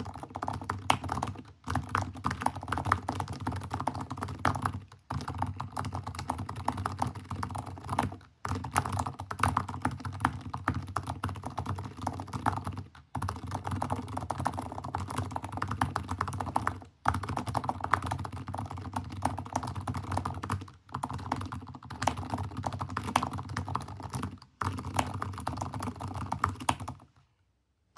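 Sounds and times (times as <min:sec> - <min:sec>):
fast typing on mechanical keyboard: 0:00.0 - 0:27.1.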